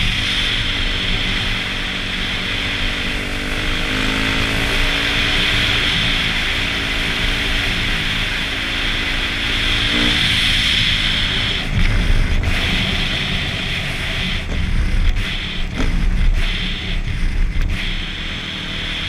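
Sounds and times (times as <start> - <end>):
dirt bike engine: 0.0 - 19.0
wind rumble on microphone: 0.0 - 19.0.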